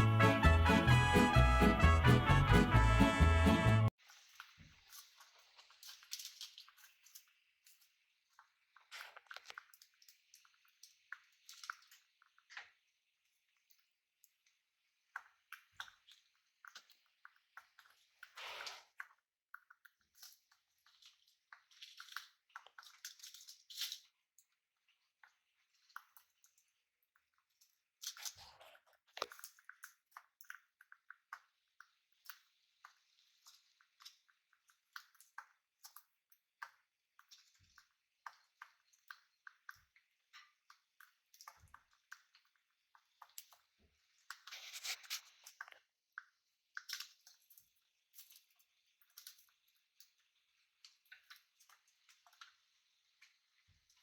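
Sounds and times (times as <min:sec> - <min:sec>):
parrots' beaks chewing and clicking: 0:04.1 - 0:12.8, 0:13.4 - 0:54.0.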